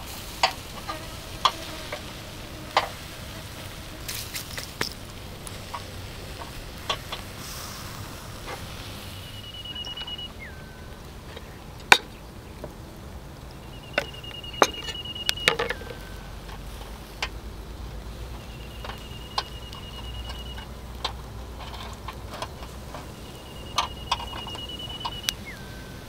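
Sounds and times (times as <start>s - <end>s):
skewers clicking on grill grate: 0.0s - 26.0s.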